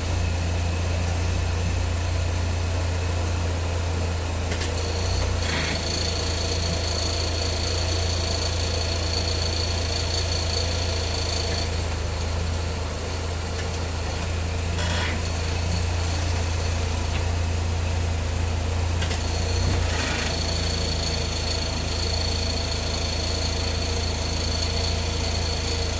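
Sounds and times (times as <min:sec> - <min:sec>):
car engine idling with rattle: 0:00.0 - 0:25.9.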